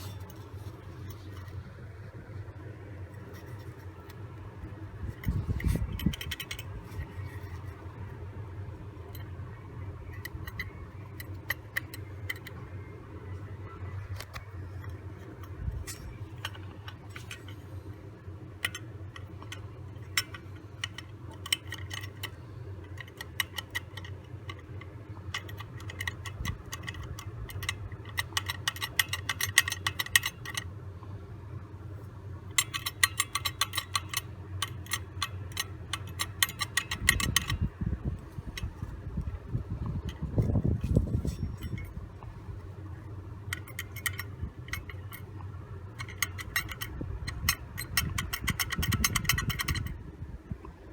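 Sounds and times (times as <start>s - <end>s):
clutch clattering rattle: 3.0s - 8.1s, 8.7s - 30.7s, 32.4s - 50.0s.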